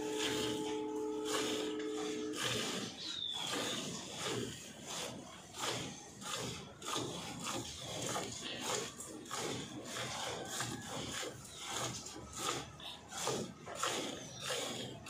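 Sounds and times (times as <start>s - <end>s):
milk squirting into steel bucket: 0.0s - 15.0s.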